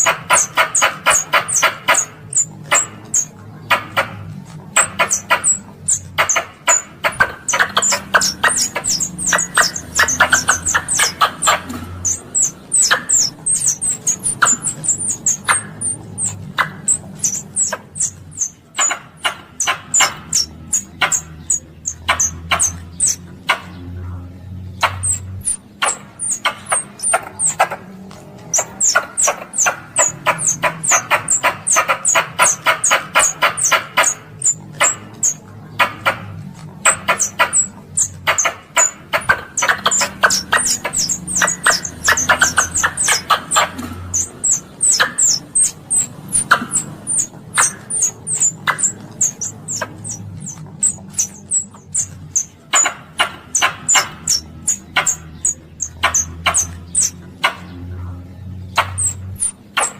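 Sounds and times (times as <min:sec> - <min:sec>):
squirrel chattering clicks: 0:00.0 - 0:59.9
squirrel chirping: 0:00.0 - 0:59.9.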